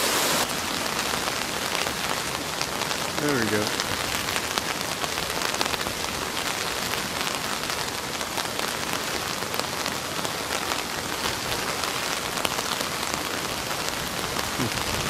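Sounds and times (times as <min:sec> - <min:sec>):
water cascading over ledge: 0:00.0 - 0:15.0.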